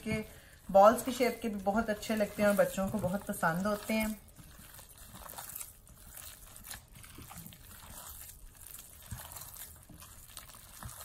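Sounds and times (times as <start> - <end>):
hand squishing wet mixture: 0.0 - 11.0.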